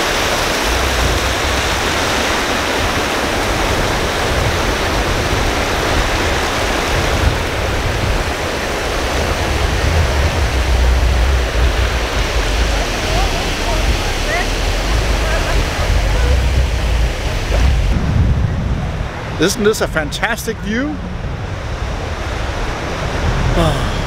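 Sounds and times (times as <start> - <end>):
low rumble: 0.0 - 20.1, 20.9 - 24.0
ocean surf washing onto beach: 0.0 - 24.0.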